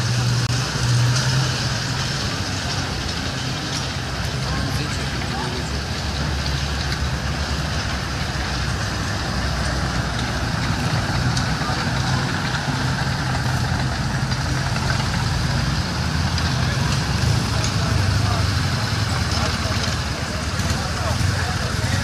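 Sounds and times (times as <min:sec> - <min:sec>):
half-track engine running: 0:00.0 - 0:22.0.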